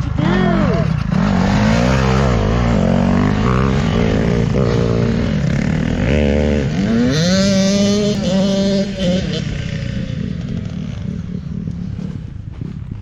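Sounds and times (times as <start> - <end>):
dirt bike engine revving: 0.0 - 12.3.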